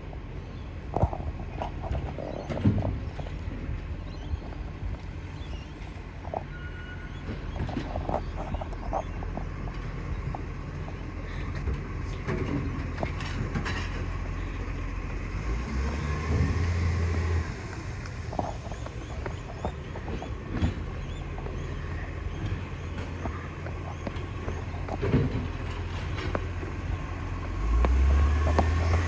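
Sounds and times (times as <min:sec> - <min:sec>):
garbage truck engine humming: 0:00.0 - 0:29.0.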